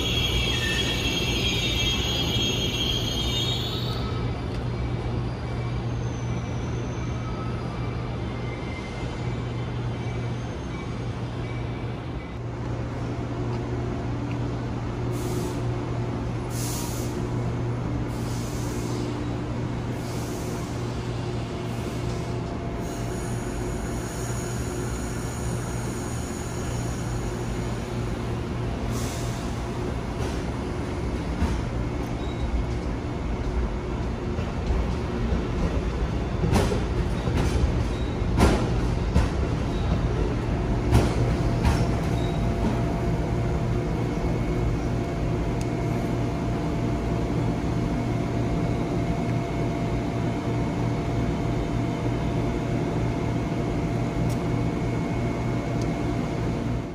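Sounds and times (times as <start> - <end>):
train running with low hum: 0.0 - 56.9.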